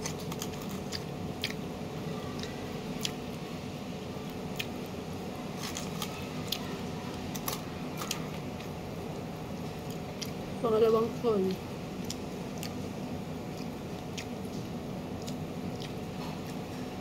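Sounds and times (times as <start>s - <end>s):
chewing broccoli: 0.0s - 3.5s, 4.2s - 10.5s, 12.0s - 17.0s.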